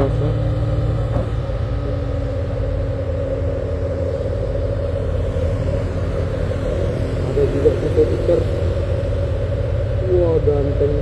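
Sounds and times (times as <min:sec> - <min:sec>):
truck engines rumbling: 0:00.0 - 0:11.0.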